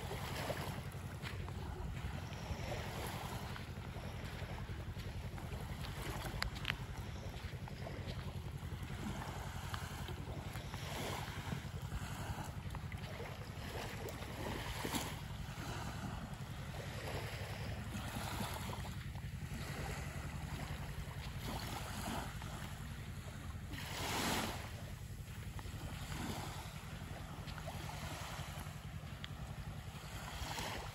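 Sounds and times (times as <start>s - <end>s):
waves lapping on sandy shore: 0.0s - 30.9s
wind rumble on microphone: 0.0s - 30.9s.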